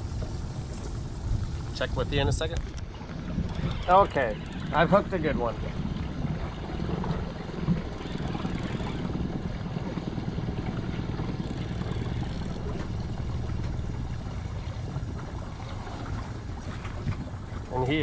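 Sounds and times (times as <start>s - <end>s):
water around boat: 0.0s - 18.0s
wind on microphone: 0.0s - 18.0s.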